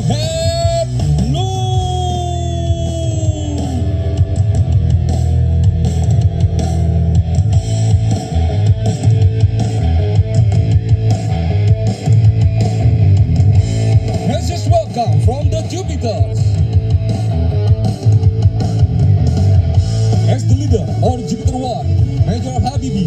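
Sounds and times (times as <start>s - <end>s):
drum beat: 0.0s - 23.0s
electric guitar: 0.0s - 23.0s.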